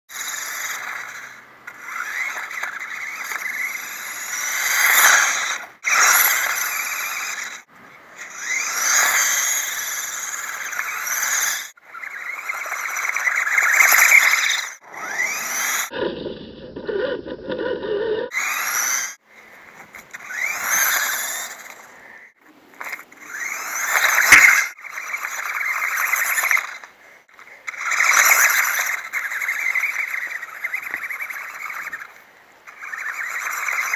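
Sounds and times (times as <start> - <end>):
toy car motor whining: 0.1 - 33.9.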